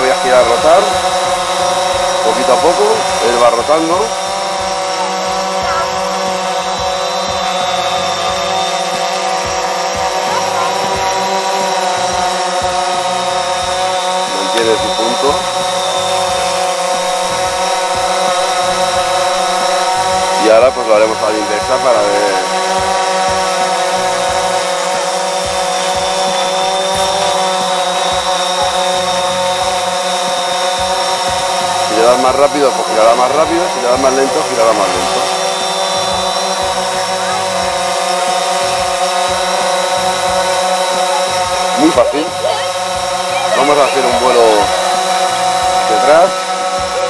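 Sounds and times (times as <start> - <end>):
drone propellers whining: 0.0 - 47.0.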